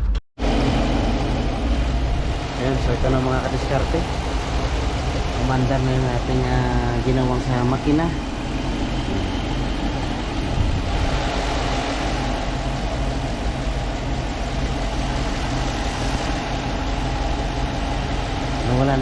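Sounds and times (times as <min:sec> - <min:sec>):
engine idling: 0:00.4 - 0:19.0.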